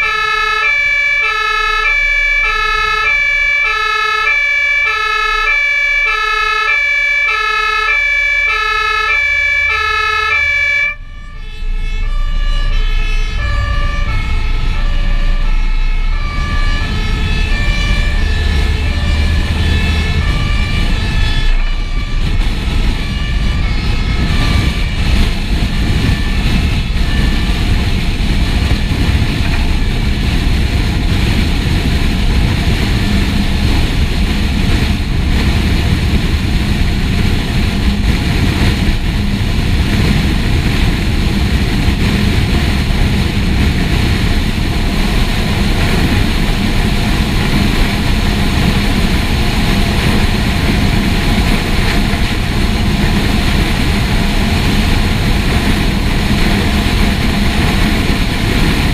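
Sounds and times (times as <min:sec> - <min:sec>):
fire engine diesel rumble: 0:00.0 - 0:58.9
road noise: 0:00.0 - 0:58.9.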